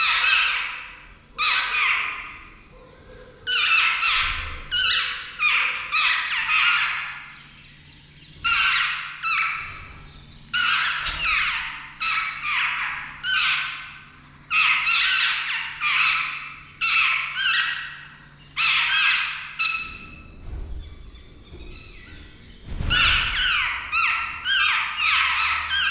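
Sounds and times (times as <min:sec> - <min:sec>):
birds giving harsh rasping calls: 0:00.0 - 0:02.7, 0:03.4 - 0:20.5, 0:21.1 - 0:25.9.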